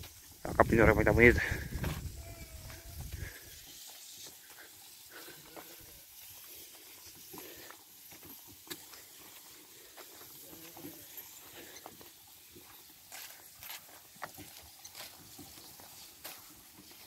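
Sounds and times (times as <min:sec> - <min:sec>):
footsteps on dirt path: 0:00.0 - 0:17.0
soft even hiss: 0:00.0 - 0:17.0.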